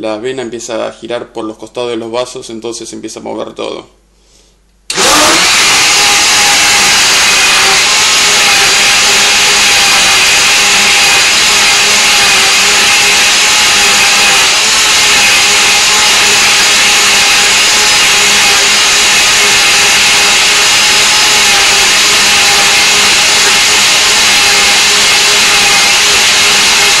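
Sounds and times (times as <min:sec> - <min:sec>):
blender motor whine: 0:04.9 - 0:27.0.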